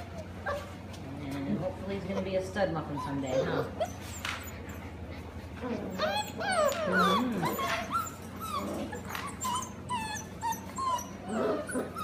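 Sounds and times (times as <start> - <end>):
puppies whining: 0.0 - 12.0.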